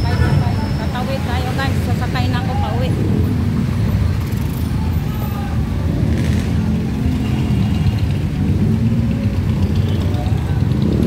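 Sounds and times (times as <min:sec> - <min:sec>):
low rumble of street traffic: 0:00.0 - 0:11.0
motorcycles passing: 0:00.0 - 0:11.0.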